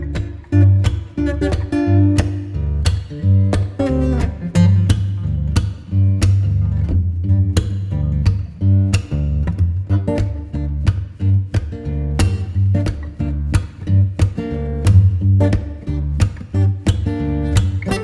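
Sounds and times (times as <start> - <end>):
steady bass line: 0.0 - 18.0
strummed guitar: 0.0 - 18.0.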